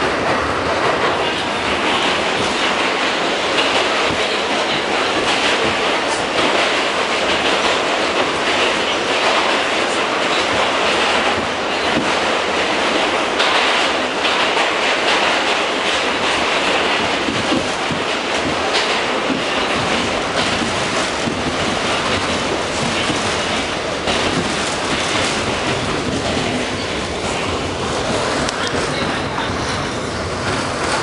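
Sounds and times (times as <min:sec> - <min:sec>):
subway train wheels on rails: 0:00.0 - 0:31.0.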